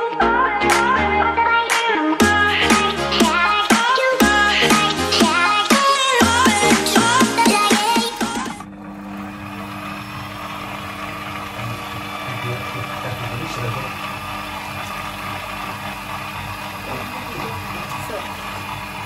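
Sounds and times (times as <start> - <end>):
stand mixer kneading dough: 2.6 - 19.0.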